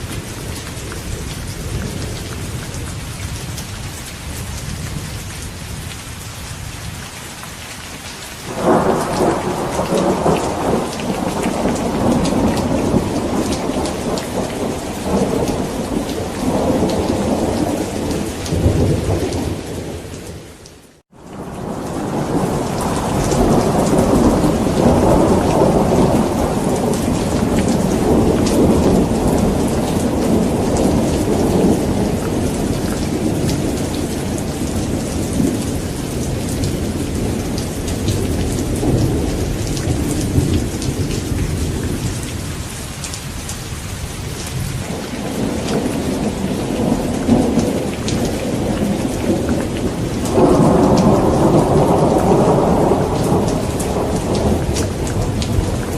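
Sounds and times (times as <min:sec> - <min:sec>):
heavy rain pattering: 0:00.0 - 0:55.9
rolling thunder: 0:08.5 - 0:20.4, 0:21.3 - 0:42.7, 0:44.4 - 0:55.9.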